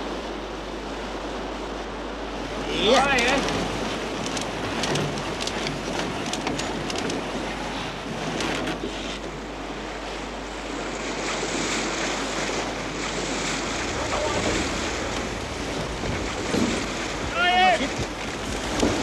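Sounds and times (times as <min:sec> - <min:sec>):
water splashing along a hull: 0:00.0 - 0:19.0
wind: 0:00.0 - 0:19.0.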